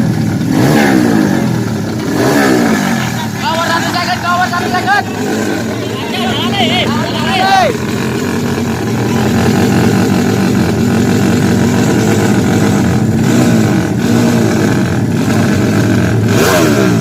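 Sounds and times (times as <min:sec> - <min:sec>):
racing motorcycle engine: 0:00.0 - 0:17.0.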